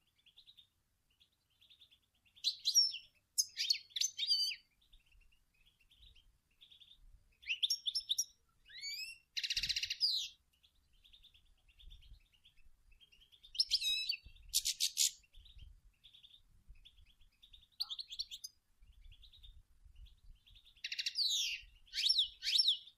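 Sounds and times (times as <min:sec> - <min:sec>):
goldfinch twittering song: 0:00.0 - 0:22.9.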